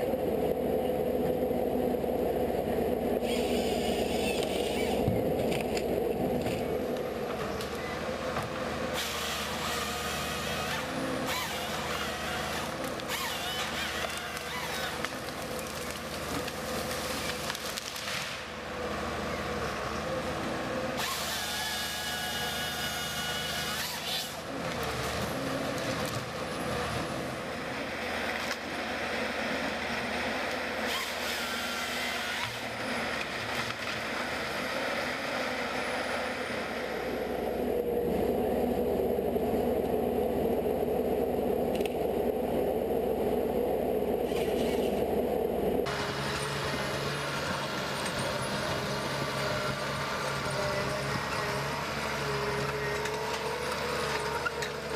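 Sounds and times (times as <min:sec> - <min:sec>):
wood-processing machinery: 0:00.0 - 0:54.9.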